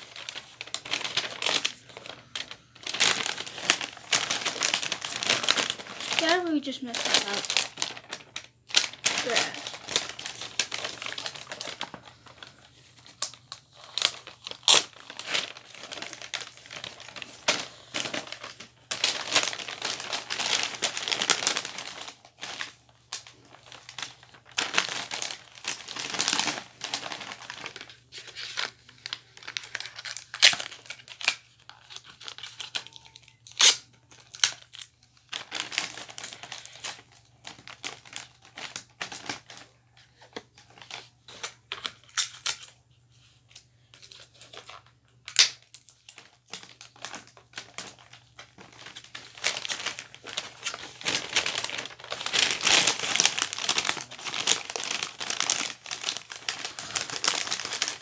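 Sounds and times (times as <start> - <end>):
wrapping paper rustling: 0.0 - 58.0.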